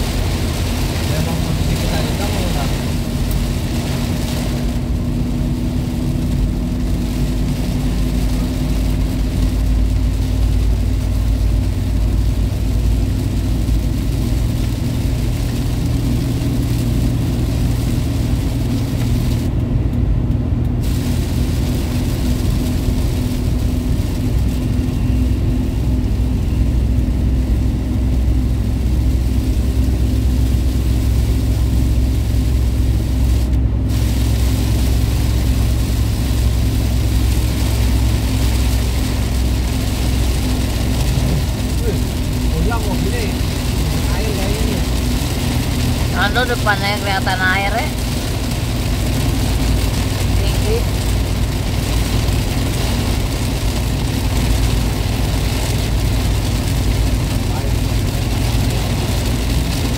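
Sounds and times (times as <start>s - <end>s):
rain and spray hissing: 0.0s - 19.6s, 20.4s - 59.9s
car engine and road drone: 0.0s - 59.9s.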